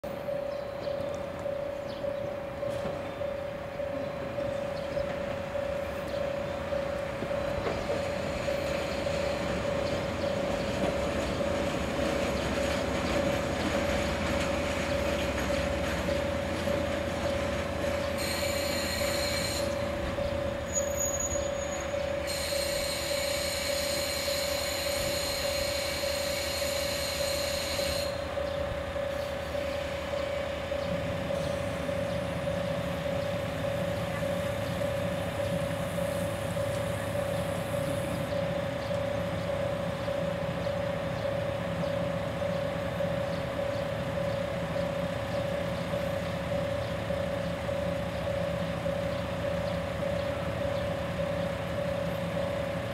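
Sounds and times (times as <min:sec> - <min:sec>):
diesel railcar humming: 0:00.0 - 0:52.9.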